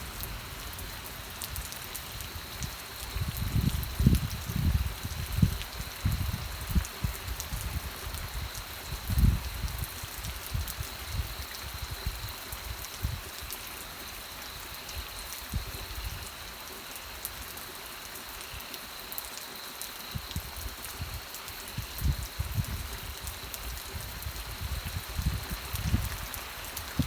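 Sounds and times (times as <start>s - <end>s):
raindrops ticking close by: 0.0s - 27.0s
steady rain falling: 0.0s - 27.0s.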